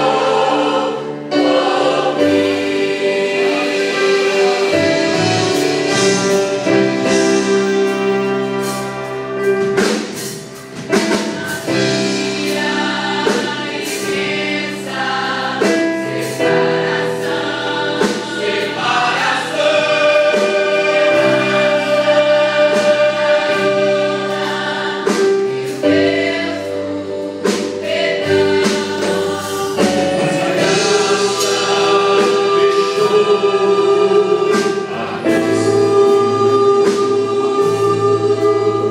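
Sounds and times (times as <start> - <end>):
instrumental backing with beat: 0.0 - 38.9
youth choir singing a hymn: 0.0 - 38.9.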